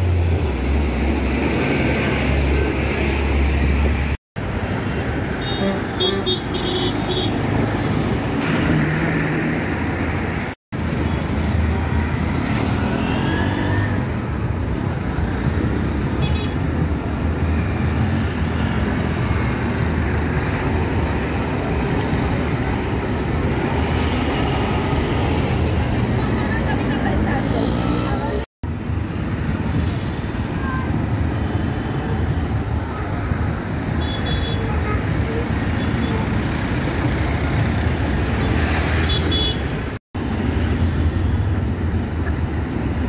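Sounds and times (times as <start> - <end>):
street traffic: 0.0 - 43.0.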